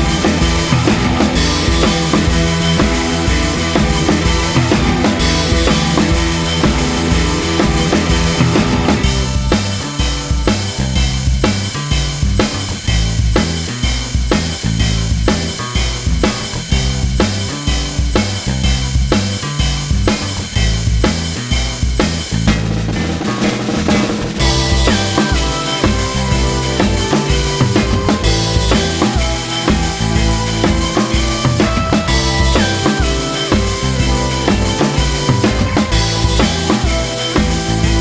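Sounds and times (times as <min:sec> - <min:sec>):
drum kit beat: 0:00.0 - 0:38.0.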